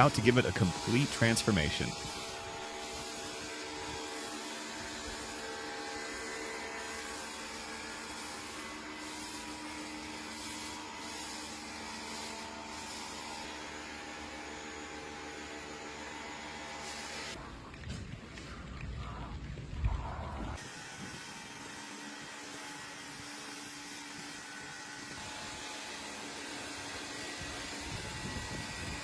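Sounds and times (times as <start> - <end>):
machine motor humming: 0.0 - 29.0.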